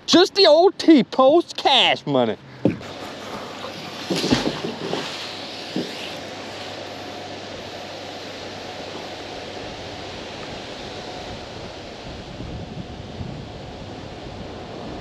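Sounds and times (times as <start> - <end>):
low rumbling wind buffets: 2.4 - 15.0
wind hiss on microphone: 2.9 - 15.0.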